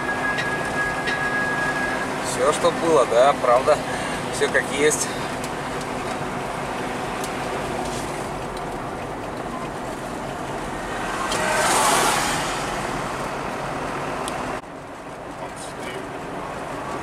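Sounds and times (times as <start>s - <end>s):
truck passing: 0.0s - 17.0s
vehicle engine and tyre noise: 0.0s - 17.0s.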